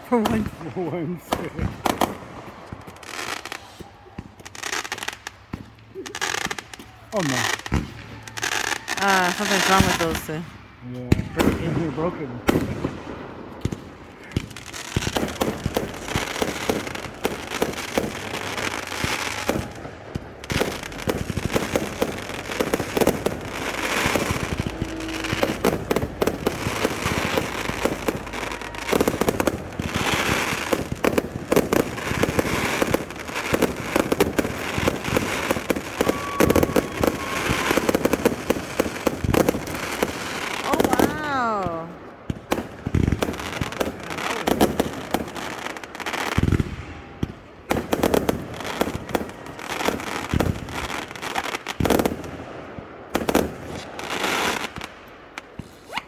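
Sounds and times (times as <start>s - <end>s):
fireworks bangs and pops: 0.0s - 56.0s
fireworks crackling: 0.0s - 56.0s.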